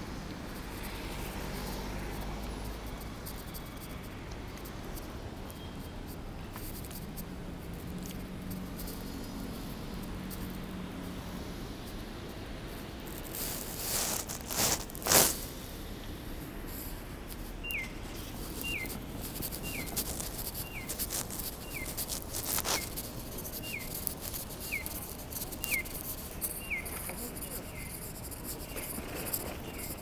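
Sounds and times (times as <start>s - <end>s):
street noise: 0.0s - 30.0s.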